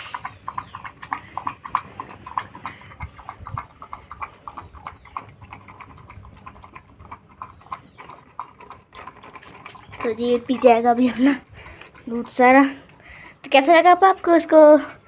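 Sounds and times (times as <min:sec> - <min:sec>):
dog lapping milk: 0:00.0 - 0:15.0.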